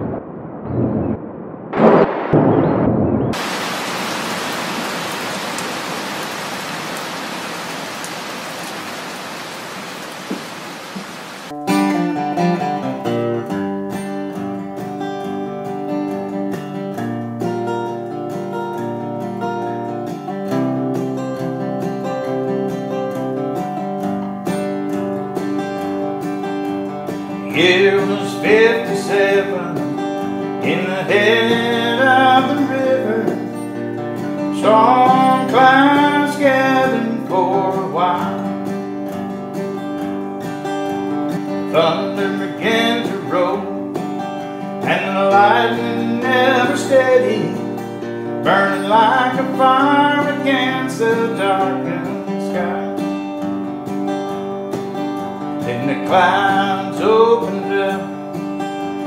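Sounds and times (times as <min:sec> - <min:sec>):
acoustic guitar strumming: 0:11.3 - 0:59.0.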